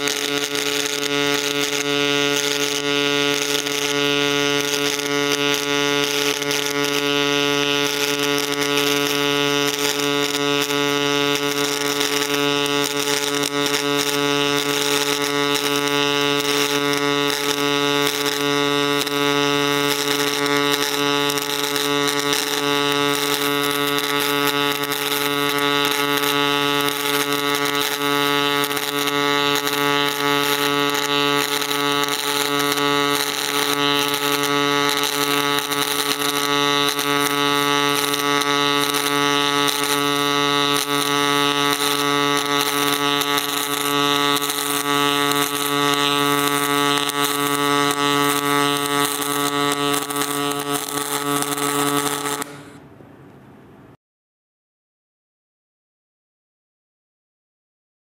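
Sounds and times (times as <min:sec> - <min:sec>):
arc welding buzz and hiss: 0:00.0 - 0:52.8.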